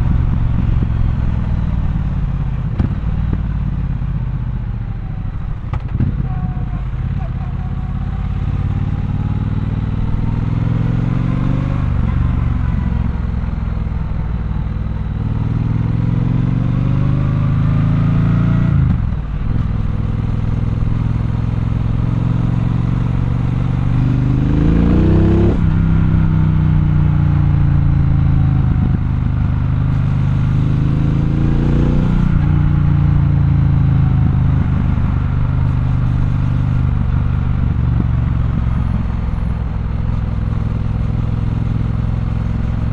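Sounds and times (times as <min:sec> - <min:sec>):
motorcycle engine revving: 0:05.2 - 0:42.9.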